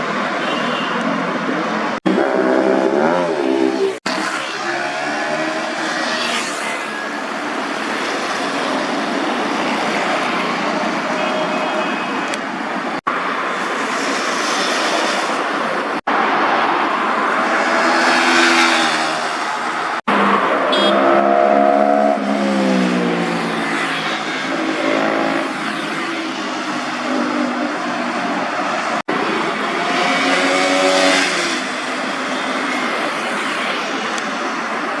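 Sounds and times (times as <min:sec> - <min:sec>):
motorcycle engines revving high: 0:01.5 - 0:35.0.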